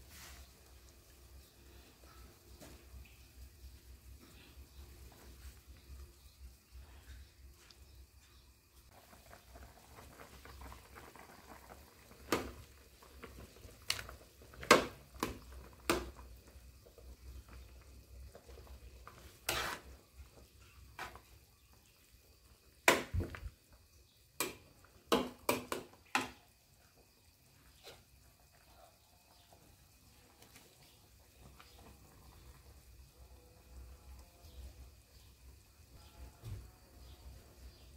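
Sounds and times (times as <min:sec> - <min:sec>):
soup bubbling: 0:00.0 - 0:36.0.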